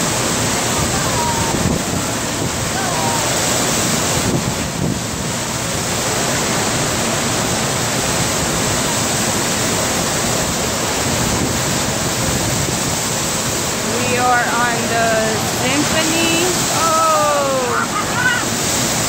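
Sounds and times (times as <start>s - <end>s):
water rushing up ramp: 0.0s - 19.0s.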